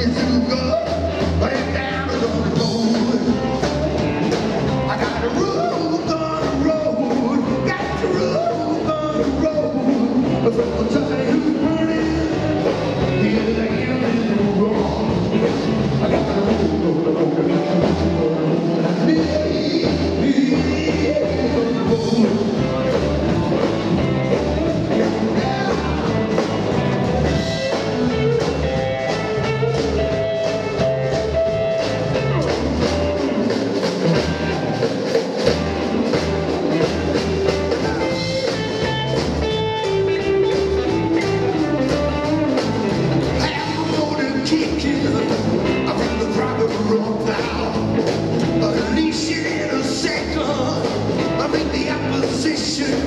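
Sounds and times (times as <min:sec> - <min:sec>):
double bass: 0:00.0 - 0:34.8, 0:35.4 - 0:53.0
drum kit beat: 0:00.0 - 0:53.0
rockabilly band playing: 0:00.0 - 0:53.0.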